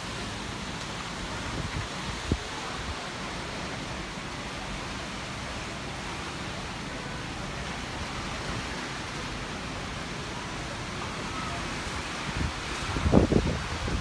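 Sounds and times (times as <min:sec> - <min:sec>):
heavy rain and wind: 0:00.0 - 0:14.0.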